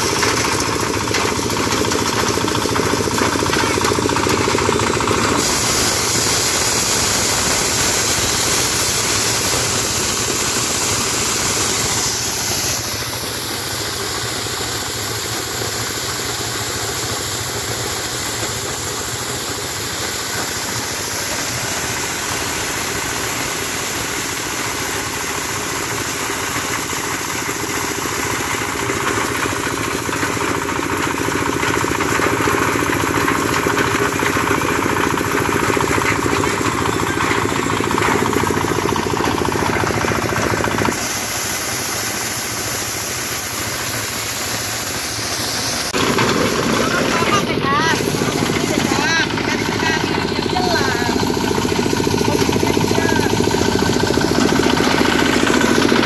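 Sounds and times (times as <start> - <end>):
threshing drum rattling: 0.0 - 41.1, 45.9 - 56.0.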